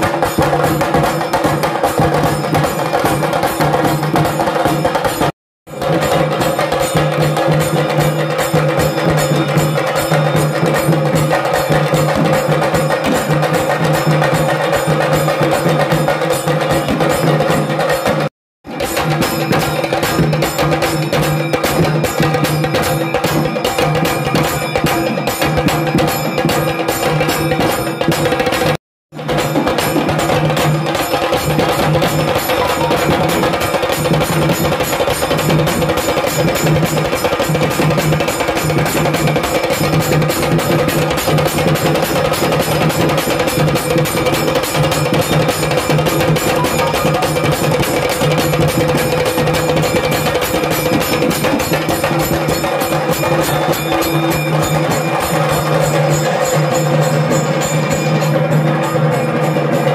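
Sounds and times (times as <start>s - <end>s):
fast drumming: 0.0s - 59.9s.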